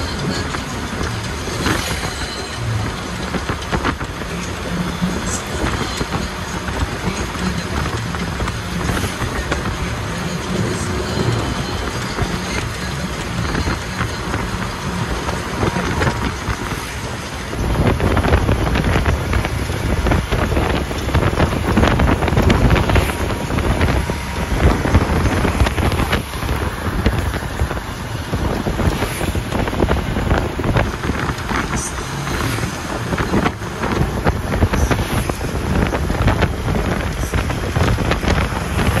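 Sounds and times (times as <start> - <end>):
road and vehicle noise: 0.0 - 39.0
wind buffeting microphone: 0.0 - 39.0.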